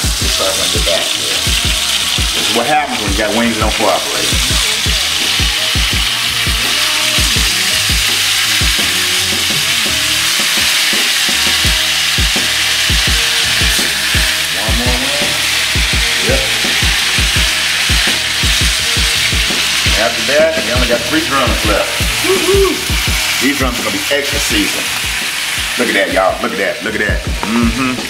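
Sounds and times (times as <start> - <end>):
oil popping: 0.0 - 25.9
chicken wings sizzling in oil: 0.0 - 28.0.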